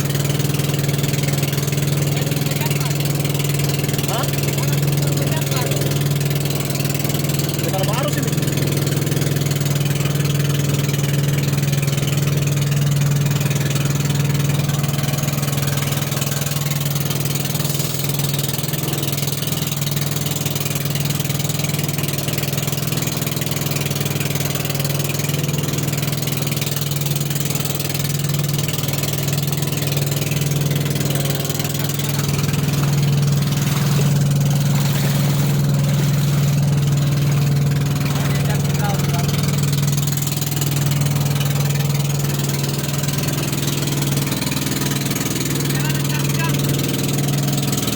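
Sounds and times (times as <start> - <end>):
boat engine droning: 0.0 - 47.9.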